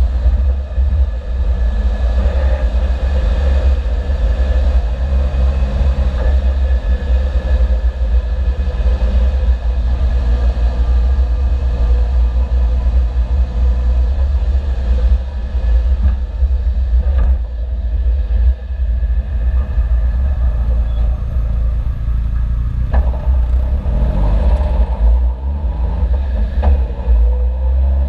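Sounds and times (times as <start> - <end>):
vehicle engine rumbling: 0.0 - 28.0.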